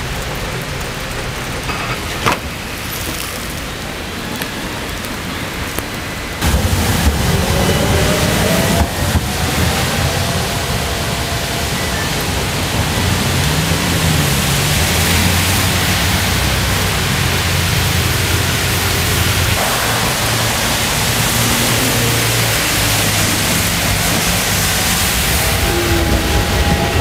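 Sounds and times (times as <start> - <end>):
heavy rain pouring: 0.0 - 27.0
low tram hum: 0.0 - 27.0.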